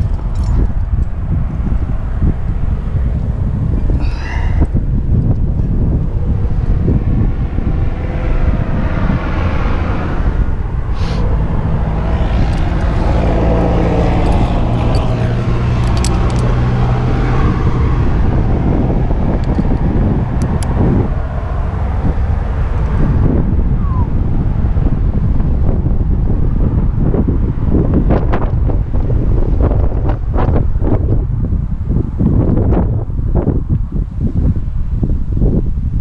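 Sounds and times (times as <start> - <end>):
vehicle engine passing: 0.0 - 32.4
wind rumble on microphone: 0.0 - 36.0.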